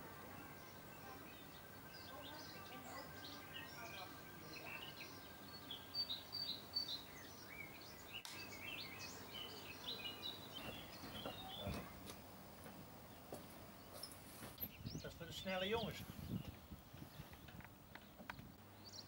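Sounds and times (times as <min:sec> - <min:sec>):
songbirds chirping and trilling: 0:00.0 - 0:19.0.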